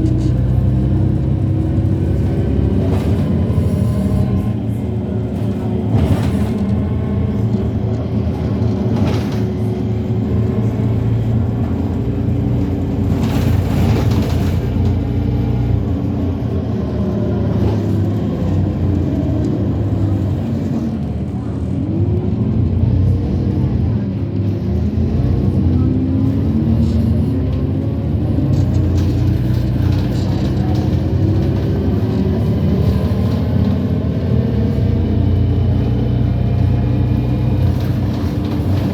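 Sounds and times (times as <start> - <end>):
bus engine hum: 0.0 - 38.9.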